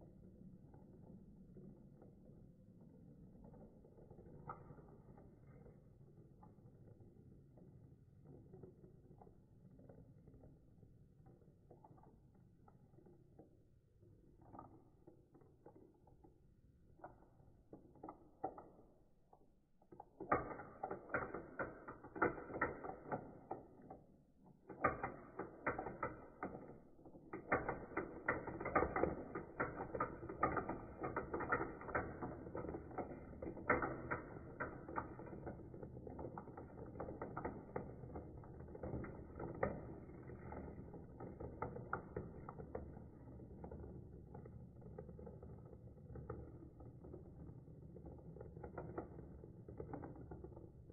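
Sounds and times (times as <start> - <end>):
plastic balls clattering through tubes: 0.0 - 50.9.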